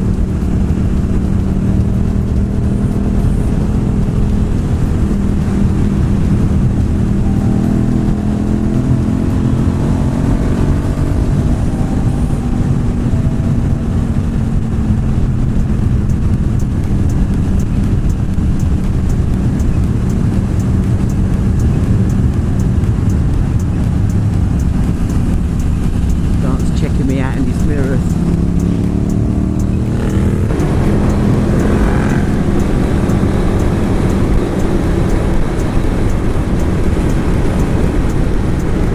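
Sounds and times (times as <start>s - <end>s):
motorcycle engine at speed: 0.0s - 38.9s
wind rumble on microphone: 0.0s - 38.9s.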